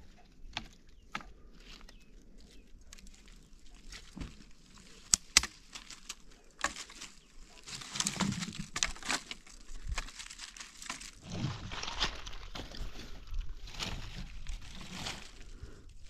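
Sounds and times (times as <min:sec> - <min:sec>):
twigs crackling on dry leaves: 0:00.0 - 0:16.0
branches snapping: 0:00.5 - 0:16.0.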